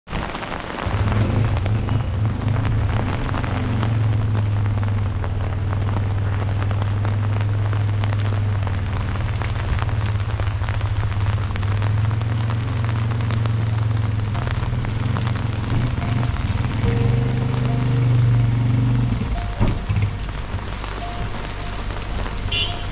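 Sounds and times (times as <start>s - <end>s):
rain falling: 0.1s - 22.9s.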